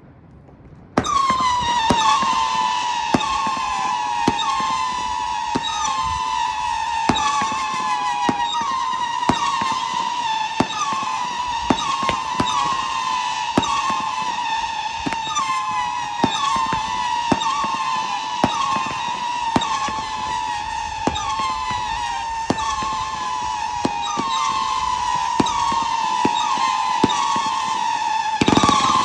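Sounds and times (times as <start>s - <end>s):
firework pops: 0.5s - 29.0s
firework whistles: 1.0s - 29.0s.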